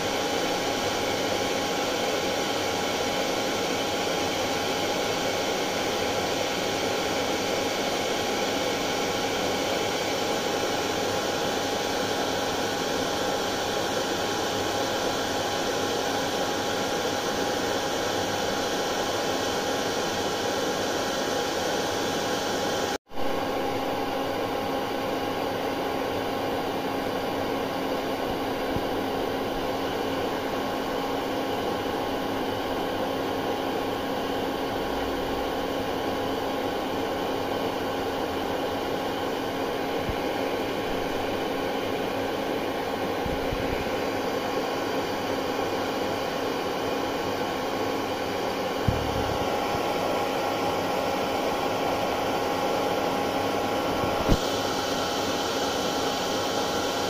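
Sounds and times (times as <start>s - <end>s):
hair dryer running: 0.0s - 23.0s, 23.8s - 57.0s.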